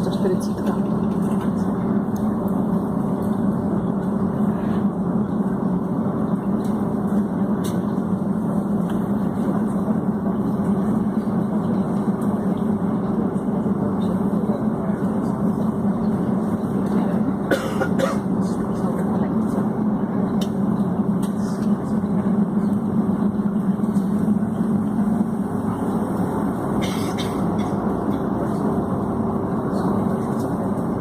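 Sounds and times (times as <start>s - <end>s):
cabin air noise: 0.0s - 31.0s
jet engines humming: 0.0s - 31.0s.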